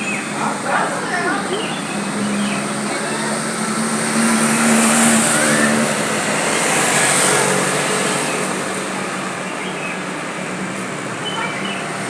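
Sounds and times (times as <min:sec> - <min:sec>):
traffic engine hum and road noise: 0:00.0 - 0:12.0.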